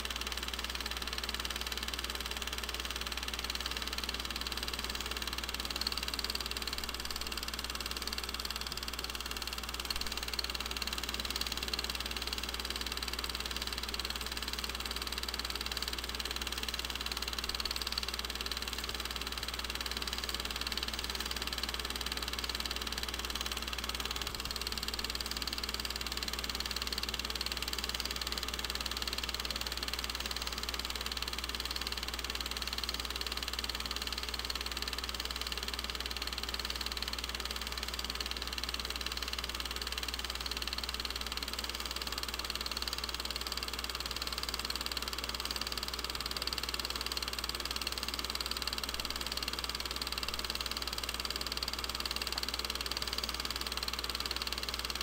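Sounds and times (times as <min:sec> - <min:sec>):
mechanical running noise: 0:00.0 - 0:55.0.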